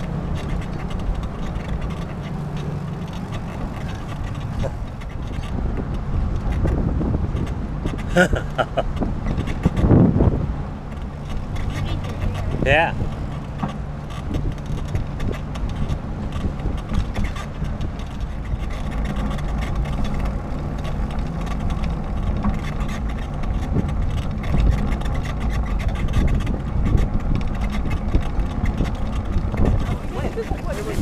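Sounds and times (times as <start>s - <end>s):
bicycle clicks and rattles: 0.0s - 31.0s
bicycle rolling on pavement: 0.0s - 31.0s.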